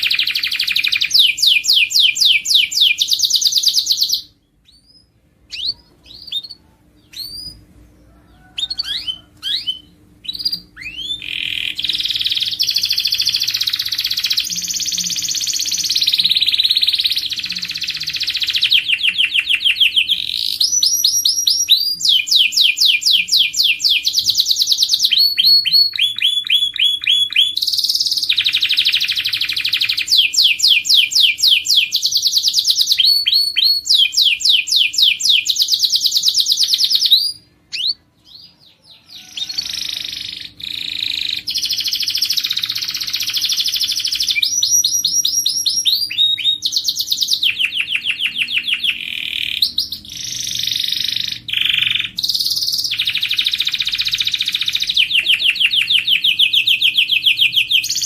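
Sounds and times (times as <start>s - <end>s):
bird chirps: 0.0s - 58.0s
canary singing trills: 0.0s - 58.0s.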